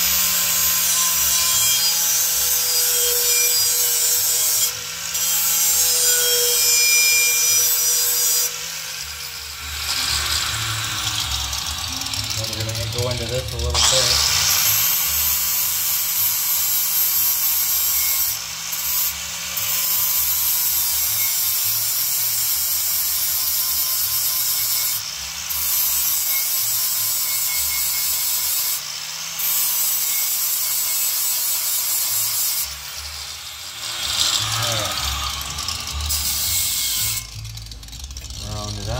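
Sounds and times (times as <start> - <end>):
power grinder grinding metal: 0.0 - 38.9.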